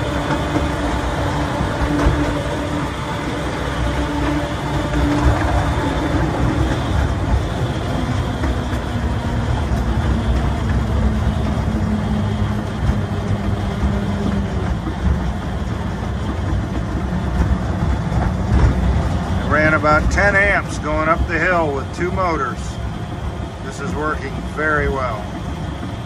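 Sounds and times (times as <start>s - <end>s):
steel wheels clattering on rail: 0.0s - 26.0s.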